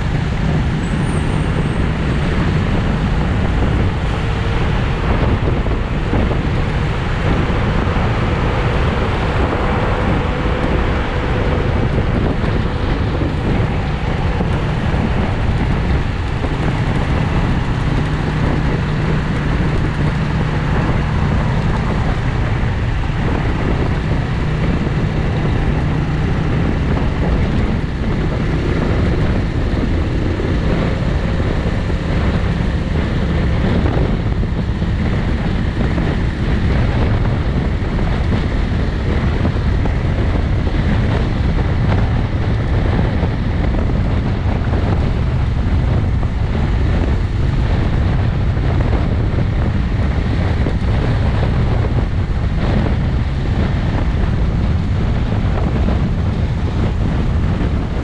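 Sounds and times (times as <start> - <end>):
motorcycle engine hum: 0.0 - 58.0
wind rushing over microphone: 0.0 - 58.0.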